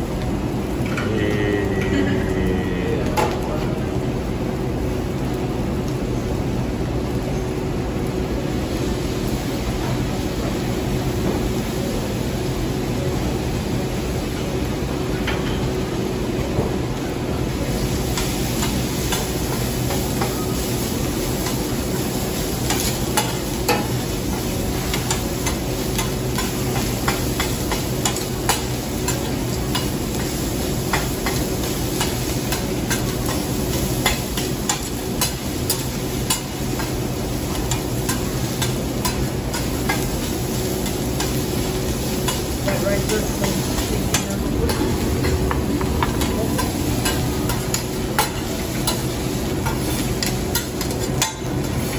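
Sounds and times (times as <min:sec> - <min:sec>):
food sizzling: 0:00.0 - 0:51.9.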